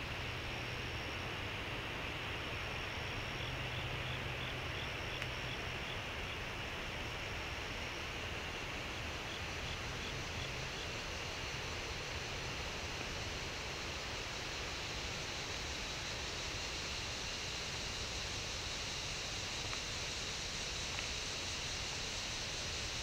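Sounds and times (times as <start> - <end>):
woodland background hiss: 0.0 - 23.0.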